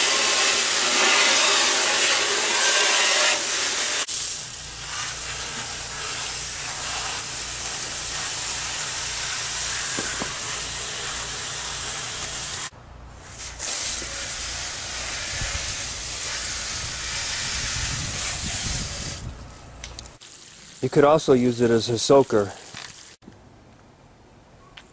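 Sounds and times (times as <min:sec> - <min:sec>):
water spraying under vehicle: 0:00.0 - 0:23.2.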